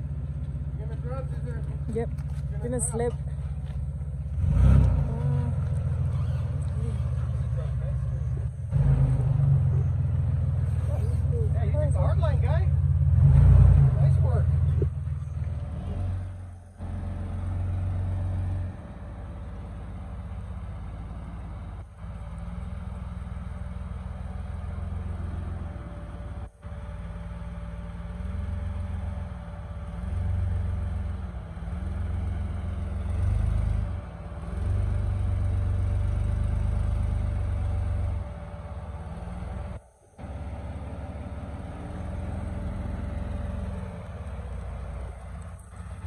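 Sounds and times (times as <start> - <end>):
truck engine rock crawling: 0.0 - 46.0.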